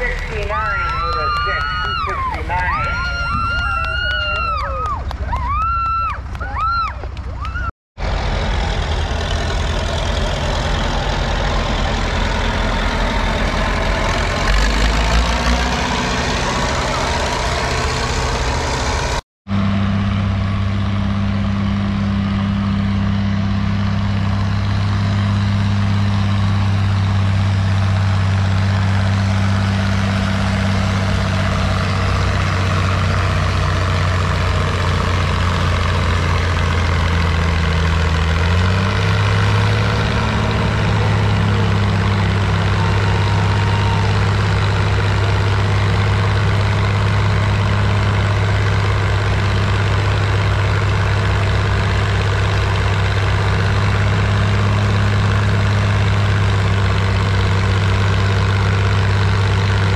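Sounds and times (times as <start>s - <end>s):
tractor engine under load: 0.0s - 5.3s, 5.9s - 59.9s.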